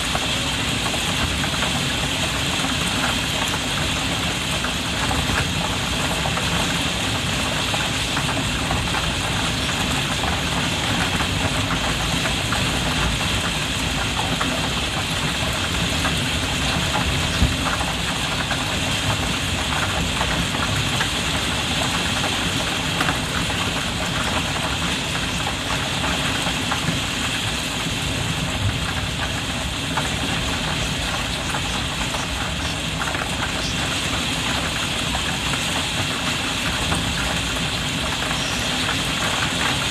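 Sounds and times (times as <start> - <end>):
heavy rain on skylight glass: 0.0 - 39.9.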